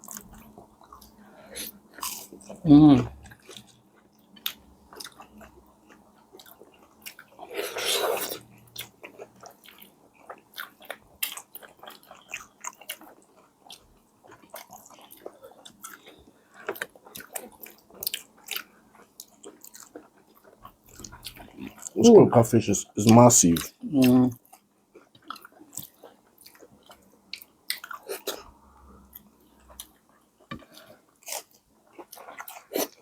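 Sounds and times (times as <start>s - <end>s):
chewing and biting: 3.2s - 22.0s, 24.4s - 28.5s, 29.1s - 33.0s.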